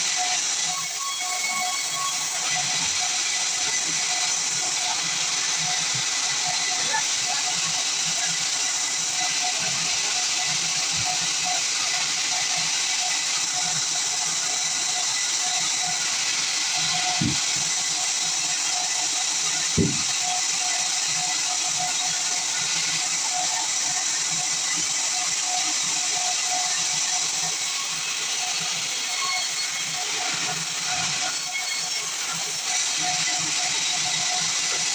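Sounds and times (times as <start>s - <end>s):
band saw cutting wood: 0.0s - 34.9s.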